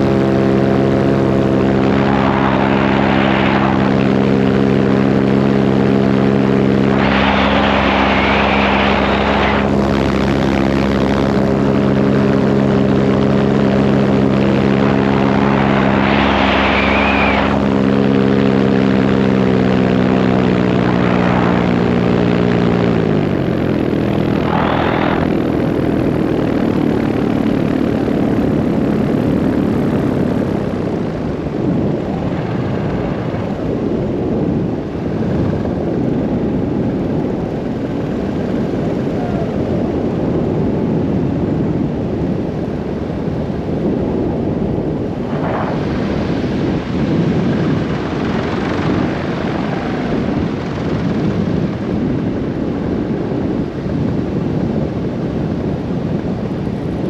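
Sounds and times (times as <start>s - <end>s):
paramotor engine drone: 0.0s - 57.0s
wind rushing over microphone: 0.0s - 57.0s.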